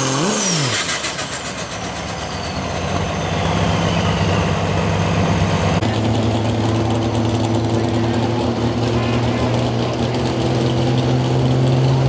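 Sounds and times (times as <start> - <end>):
diesel truck idling: 0.8 - 12.0.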